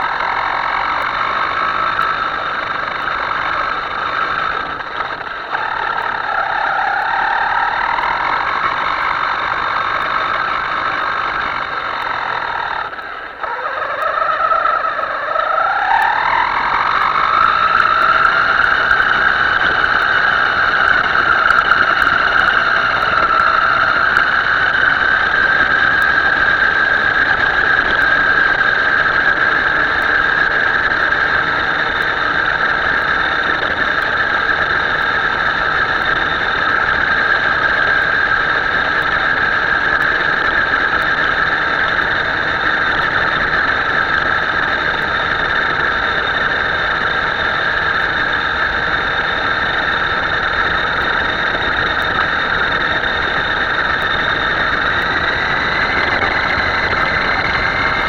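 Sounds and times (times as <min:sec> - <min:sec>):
toy boat motor whining: 0:00.0 - 0:58.0.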